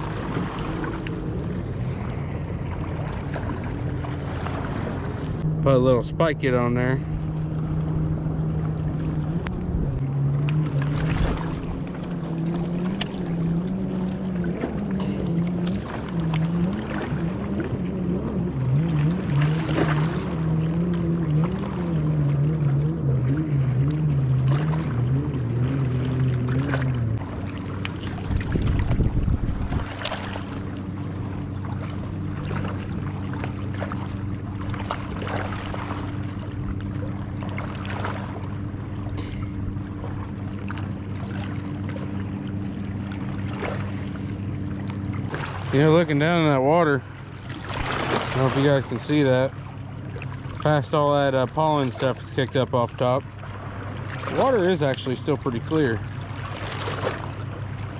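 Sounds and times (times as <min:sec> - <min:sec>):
boat engine droning: 0:00.0 - 0:57.9.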